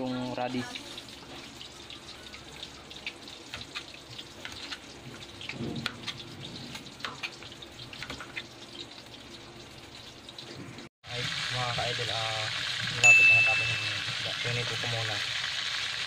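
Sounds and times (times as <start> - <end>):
fish frying in oil: 0.0 - 16.0.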